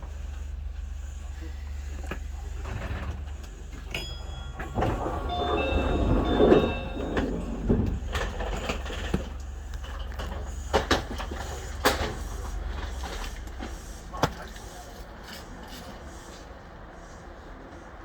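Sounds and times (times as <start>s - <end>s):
monorail train rumbling: 0.0s - 18.0s.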